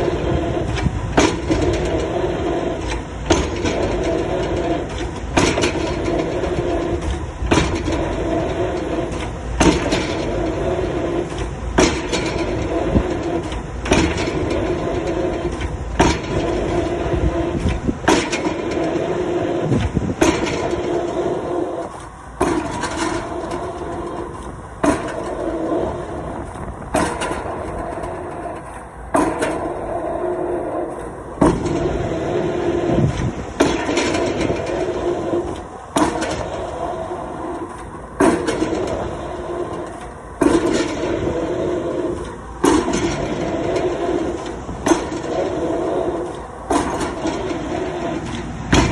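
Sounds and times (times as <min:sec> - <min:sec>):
excavator engine running: 0:00.0 - 0:48.9.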